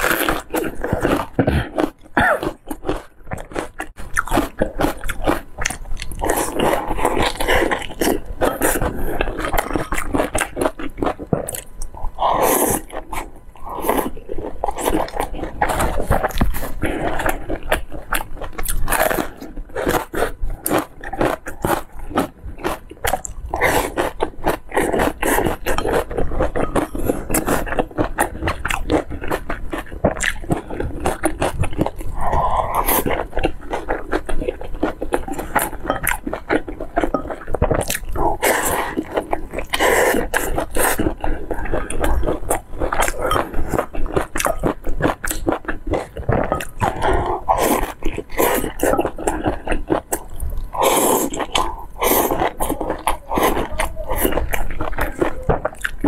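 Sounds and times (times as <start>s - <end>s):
close-miked chewing: 0.0s - 56.0s.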